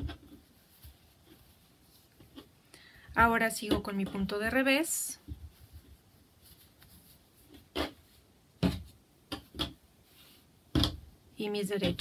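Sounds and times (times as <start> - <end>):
soft yarn thuds and rustles: 0.0 - 12.0.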